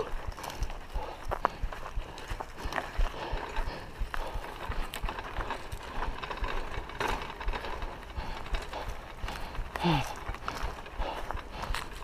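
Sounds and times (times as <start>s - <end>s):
bike rattling over dirt track: 0.0s - 12.0s.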